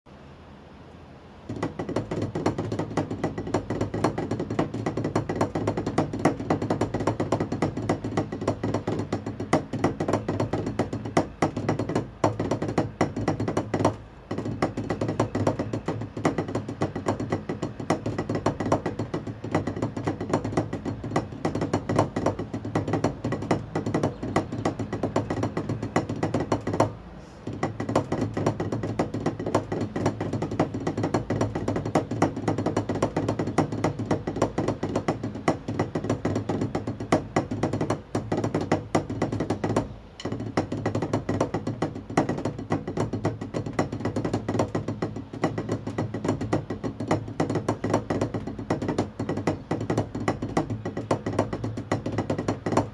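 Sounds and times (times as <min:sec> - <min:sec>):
drumsticks on a practice pad: 0:01.5 - 0:52.9.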